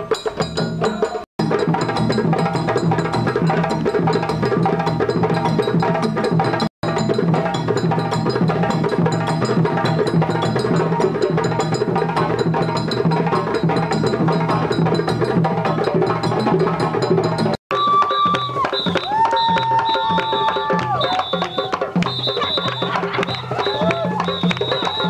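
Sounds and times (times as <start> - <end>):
drum ensemble playing: 0.0 - 25.0
sharp clicking percussion: 0.0 - 25.0.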